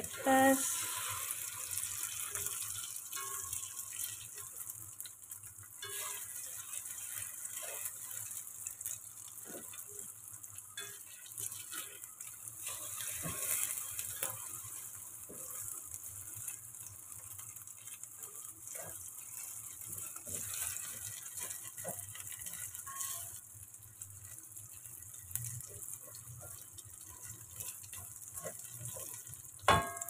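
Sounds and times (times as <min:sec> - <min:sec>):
omelette sizzling in oil: 0:00.0 - 0:30.0
spatula scraping and tapping pan: 0:02.0 - 0:10.1, 0:10.8 - 0:23.5, 0:24.4 - 0:30.0.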